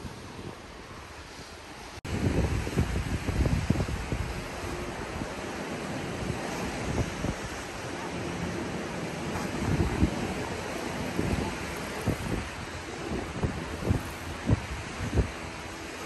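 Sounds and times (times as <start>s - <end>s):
waves on shore: 0.0s - 16.0s
wind buffeting microphone: 0.0s - 16.0s.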